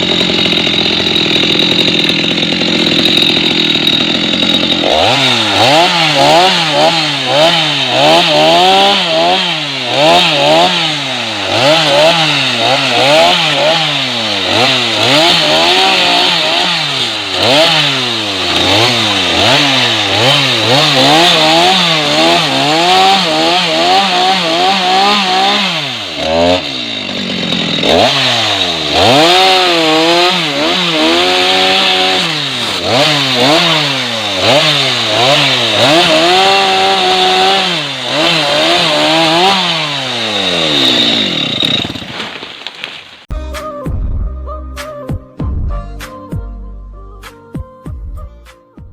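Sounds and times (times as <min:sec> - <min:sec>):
chainsaw cutting wood: 0:00.0 - 0:43.3.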